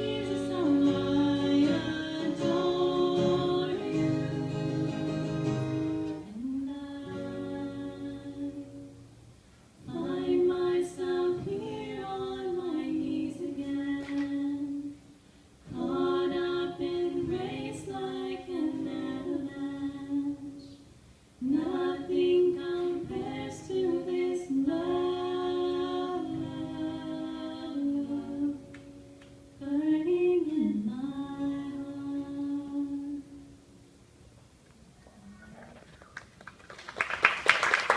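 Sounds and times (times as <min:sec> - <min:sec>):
women singing a worship song: 0:00.0 - 0:09.0, 0:09.8 - 0:15.0, 0:15.6 - 0:20.8, 0:21.4 - 0:29.0, 0:29.6 - 0:33.5.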